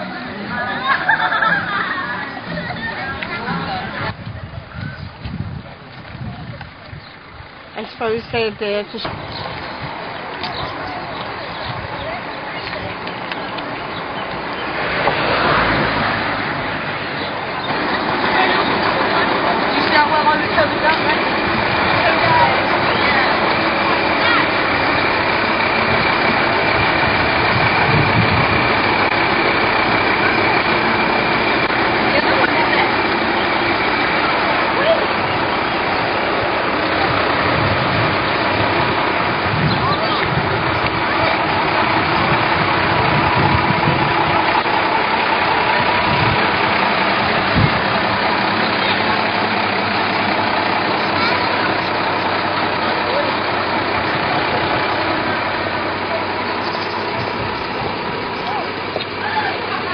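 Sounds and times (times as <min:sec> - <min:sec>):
lorry engine running: 0:00.0 - 0:59.9
voices in background: 0:02.0 - 0:14.8, 0:17.2 - 0:26.2, 0:29.7 - 0:59.9.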